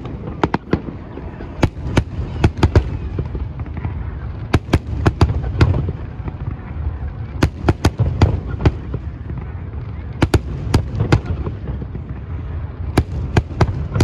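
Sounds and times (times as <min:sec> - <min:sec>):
continuous low rumble: 0:00.0 - 0:14.0.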